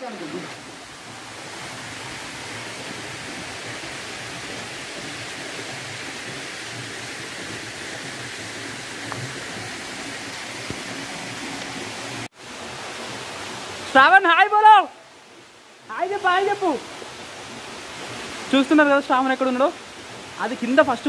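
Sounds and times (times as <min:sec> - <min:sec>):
small waterfall rushing: 0:00.0 - 0:21.0.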